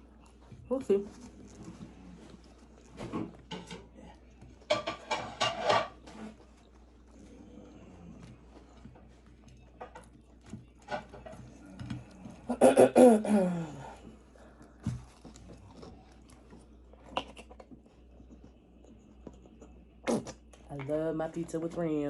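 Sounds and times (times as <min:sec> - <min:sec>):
soft chewing and mouth clicks: 0:00.0 - 0:12.6, 0:13.9 - 0:20.9.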